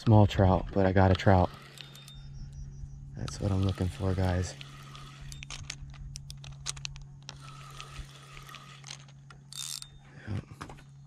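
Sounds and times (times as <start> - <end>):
fishing reel clicking: 1.0 - 10.0.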